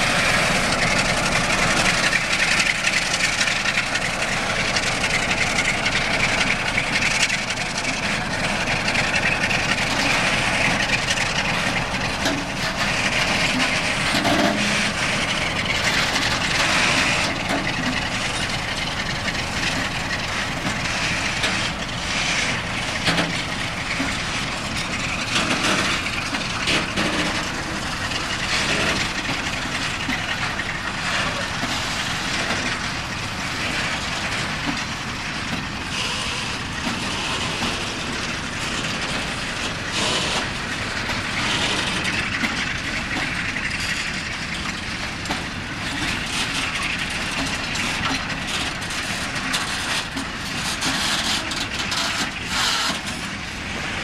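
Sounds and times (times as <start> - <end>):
diesel locomotive pulling away: 0.0 - 54.0
train wheels knocking over rail joints: 0.0 - 54.0.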